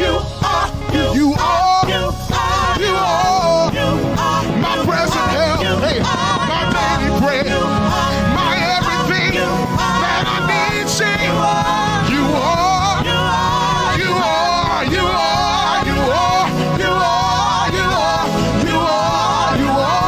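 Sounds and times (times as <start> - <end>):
backing singers: 0.0 - 20.0
band accompaniment with bass: 0.0 - 20.0
man singing into a microphone: 0.8 - 20.0.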